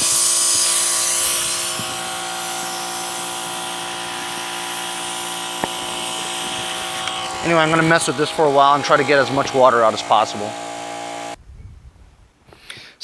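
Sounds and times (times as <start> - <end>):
air compressor humming: 0.0 - 11.4
compressed air hissing: 0.0 - 11.4.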